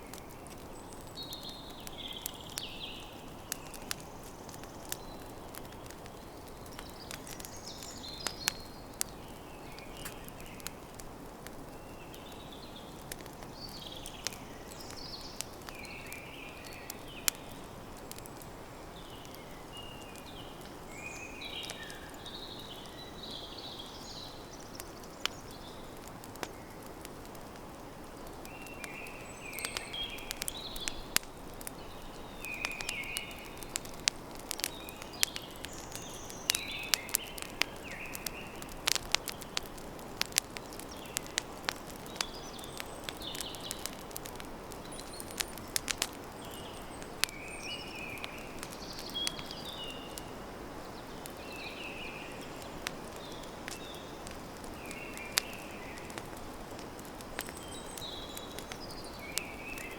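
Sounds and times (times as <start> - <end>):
campfire crackling: 0.0 - 59.9
small birds chirping: 0.0 - 59.9.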